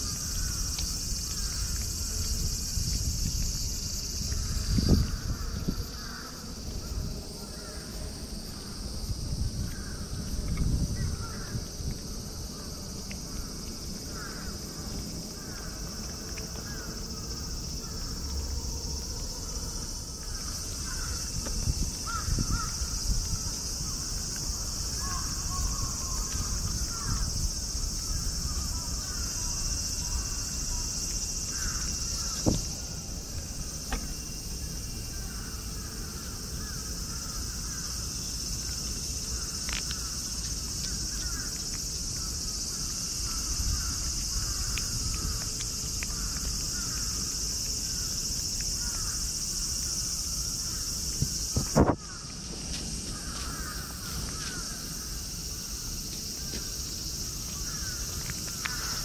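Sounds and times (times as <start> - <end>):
high insect chorus: 0.0 - 59.0.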